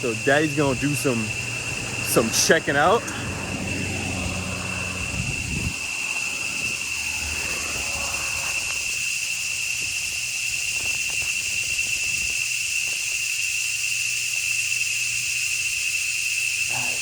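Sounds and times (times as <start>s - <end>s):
cicadas singing: 0.0s - 17.0s.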